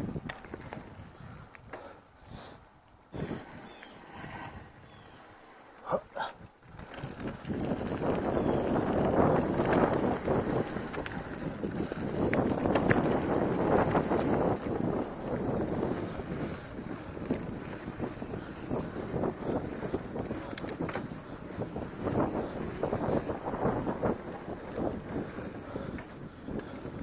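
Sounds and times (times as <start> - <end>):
wind buffeting microphone: 0.0 - 1.8, 6.2 - 27.0
bike rattling over rough ground: 0.0 - 2.0, 3.1 - 27.0
bike tyre rumble: 0.0 - 27.0.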